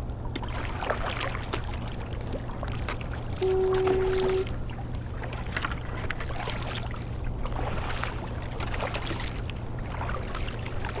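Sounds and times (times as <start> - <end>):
paddle splashes and drips: 0.0 - 11.0.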